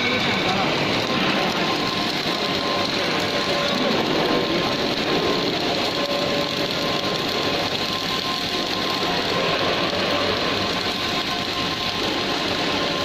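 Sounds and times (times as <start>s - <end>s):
faint steady whine: 0.0s - 13.0s
welding arc crackling and buzzing: 0.0s - 13.0s.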